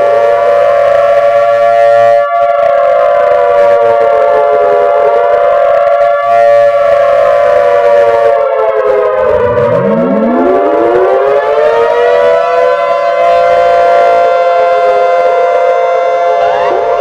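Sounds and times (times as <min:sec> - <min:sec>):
sirens wailing: 0:00.0 - 0:17.0
siren winding up: 0:01.7 - 0:17.0.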